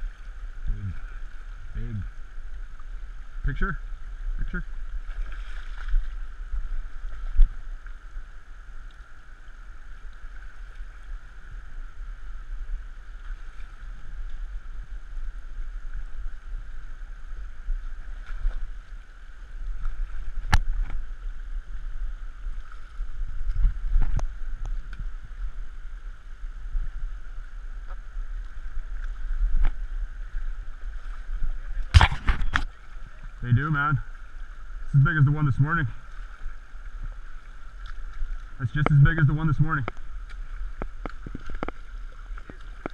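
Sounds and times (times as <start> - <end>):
river water running over rocks: 0.0 - 42.9.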